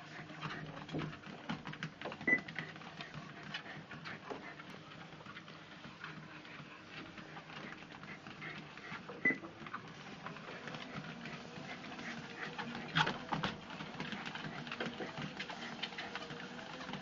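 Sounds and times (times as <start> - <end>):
treadmill motor and belt running: 0.0 - 17.0.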